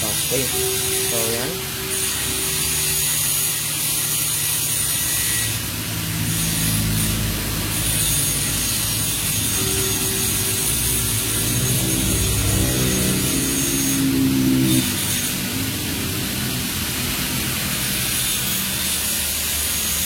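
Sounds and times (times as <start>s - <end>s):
machine motor humming and rattling: 0.0s - 20.0s.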